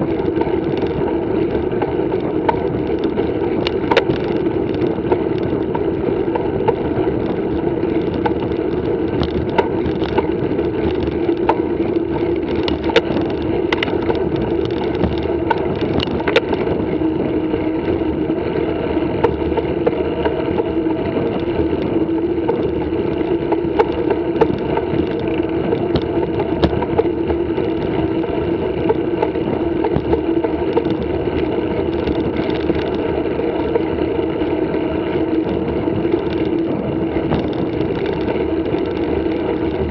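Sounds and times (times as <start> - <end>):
bike clicks and rattles: 0.0 - 39.9
bike tyres humming on concrete: 0.0 - 39.9.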